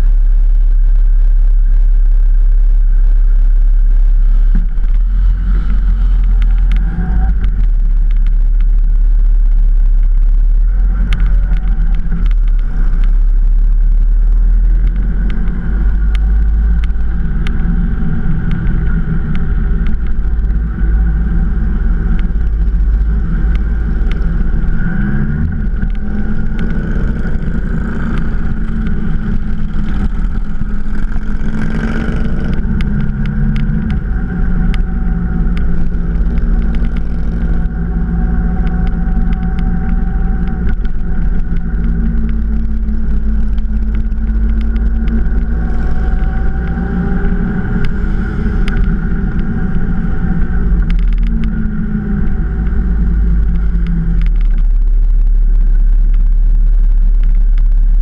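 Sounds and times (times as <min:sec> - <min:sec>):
motorcycle engine revving: 0:00.0 - 0:57.4.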